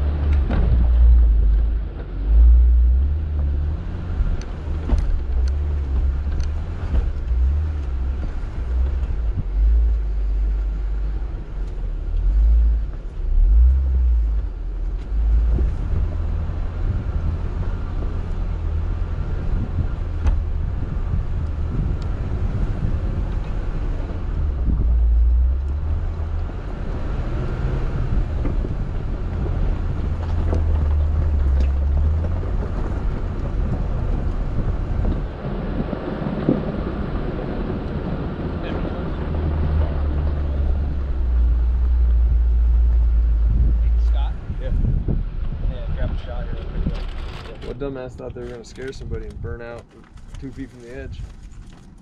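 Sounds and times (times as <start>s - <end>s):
vehicle rumbling over rough trail: 0.0s - 52.0s.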